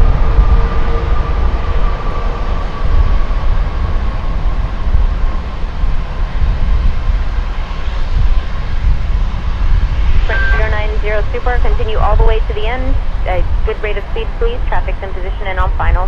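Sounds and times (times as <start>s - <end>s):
distant jet engines spooling down: 0.0s - 16.0s.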